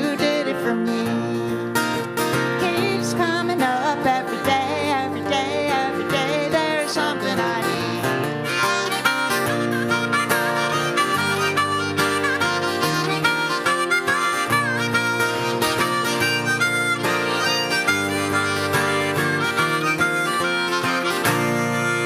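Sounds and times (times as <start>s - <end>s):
strummed acoustic guitar: 0.0s - 22.0s
harmonica playing lead: 0.9s - 22.0s.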